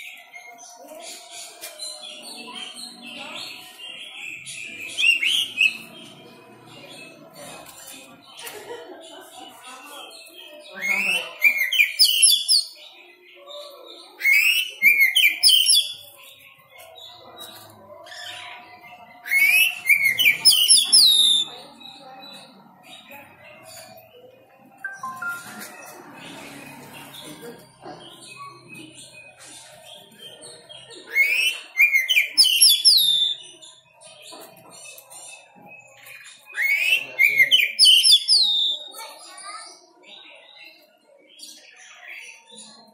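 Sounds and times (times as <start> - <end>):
songbird singing: 0.0 - 8.4, 9.2 - 13.5, 14.2 - 42.9.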